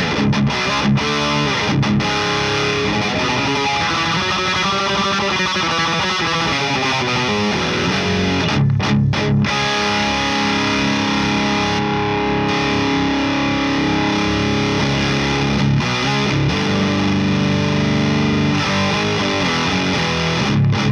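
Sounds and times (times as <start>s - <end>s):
distorted electric guitar: 0.0s - 20.9s.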